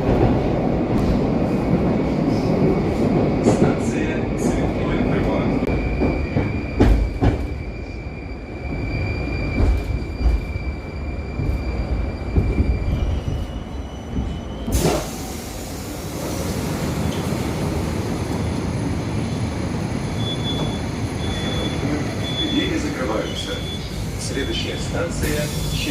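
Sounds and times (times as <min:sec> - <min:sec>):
low train rumble: 0:00.0 - 0:25.9
train doors opening: 0:00.0 - 0:25.9.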